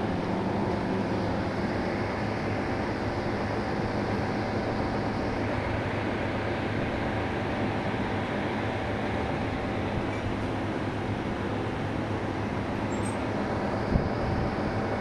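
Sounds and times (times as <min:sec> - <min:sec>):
faint steady whine: 0:00.0 - 0:15.0
refrigeration unit humming: 0:00.0 - 0:15.0.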